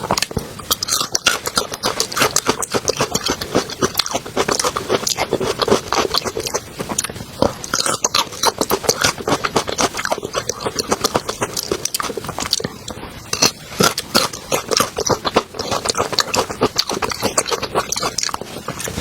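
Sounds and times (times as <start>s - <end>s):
chewing and biting food: 0.0s - 19.0s.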